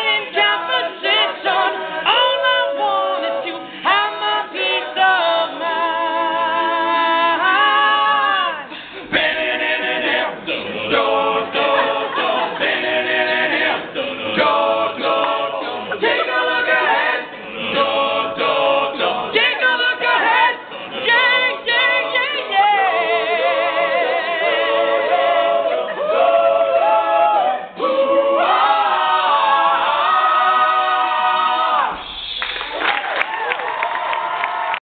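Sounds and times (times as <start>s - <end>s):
male group singing in harmony: 0.0s - 32.0s.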